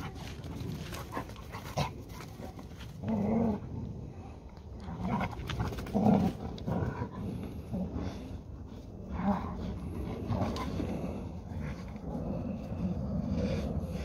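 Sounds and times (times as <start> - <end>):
dogs growling in play: 0.0 - 14.0.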